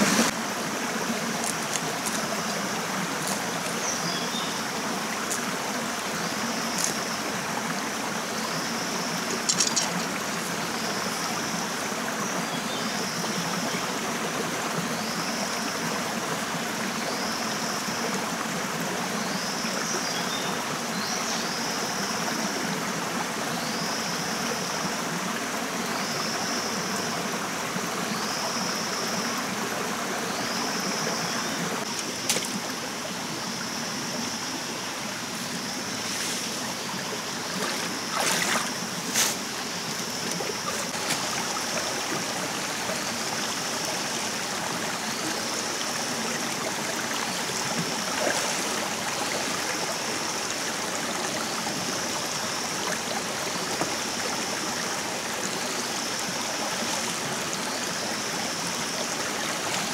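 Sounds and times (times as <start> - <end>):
forest stream rushing: 0.0 - 59.9.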